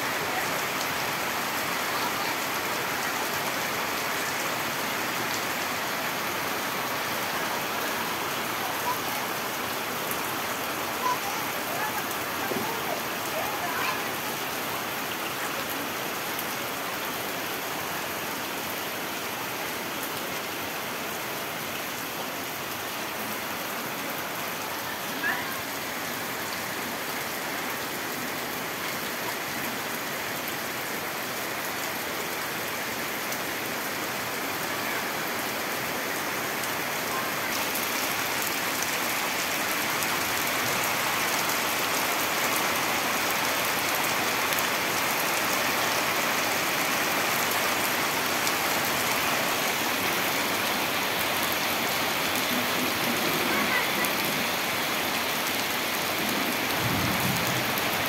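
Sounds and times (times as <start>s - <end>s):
rain on leaves and paving: 0.0s - 58.0s.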